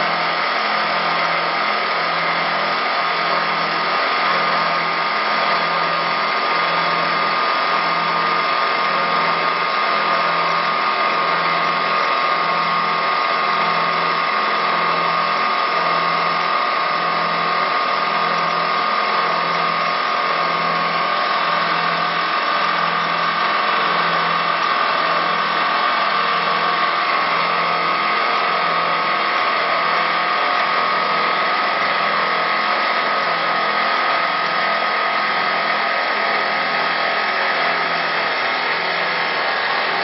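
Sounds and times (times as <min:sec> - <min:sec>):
lathe whirring: 0:00.0 - 0:40.0.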